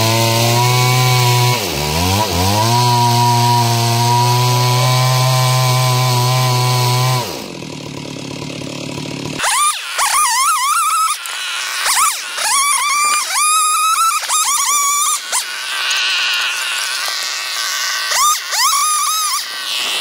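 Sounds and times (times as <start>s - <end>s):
chainsaw ripping wood: 0.0s - 20.0s.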